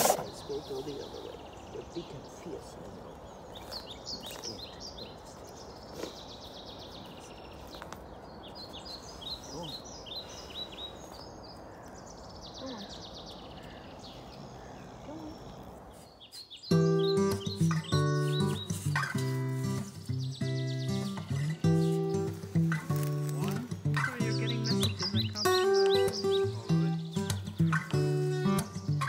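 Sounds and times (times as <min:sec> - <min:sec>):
outdoor background hiss: 0:00.0 - 0:29.0
songbirds chirping and trilling: 0:00.0 - 0:29.0.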